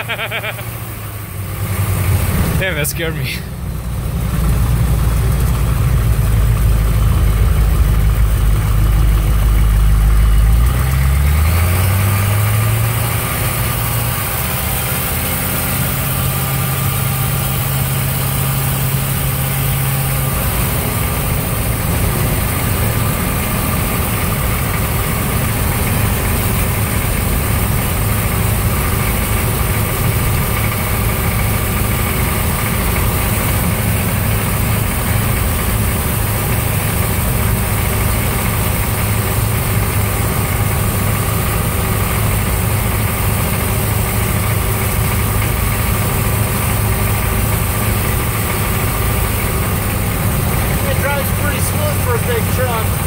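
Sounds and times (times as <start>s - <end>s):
diesel engine idling and pulling away: 0.0s - 53.0s.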